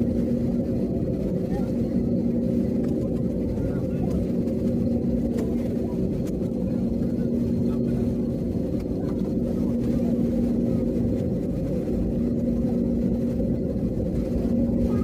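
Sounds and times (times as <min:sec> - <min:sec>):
jet engines idling in cabin: 0:00.0 - 0:15.0.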